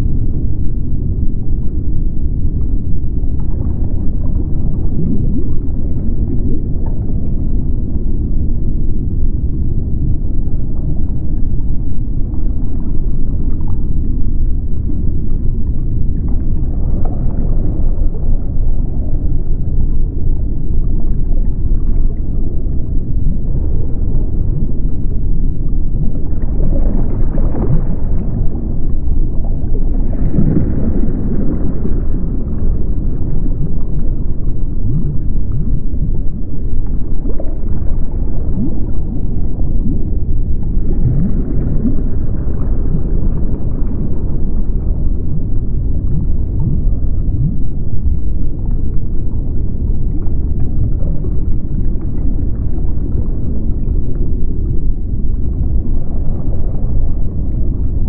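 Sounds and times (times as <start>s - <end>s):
deep underwater rumble: 0.0s - 58.0s.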